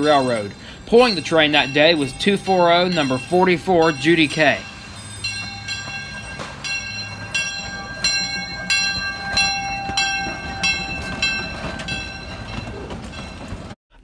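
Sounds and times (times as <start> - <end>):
locomotive bell ringing: 0.0 - 13.8
steam locomotive rumble: 0.0 - 13.8.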